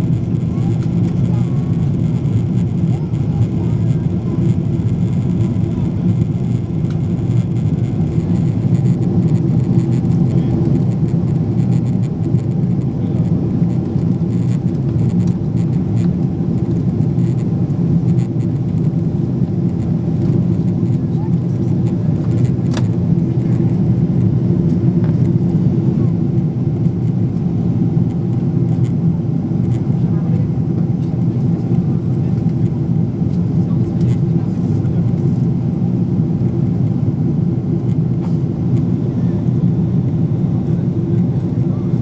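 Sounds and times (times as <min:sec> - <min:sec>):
aircraft cabin engine rumble: 0:00.0 - 0:42.0.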